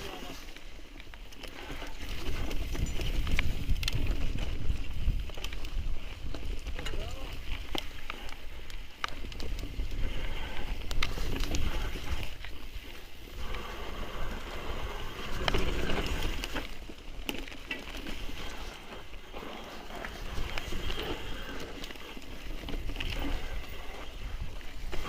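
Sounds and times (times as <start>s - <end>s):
bike rattling and clicking: 0.0s - 25.0s
tyres rolling on dirt and stones: 0.0s - 25.0s
wind rumble on microphone: 1.4s - 25.0s.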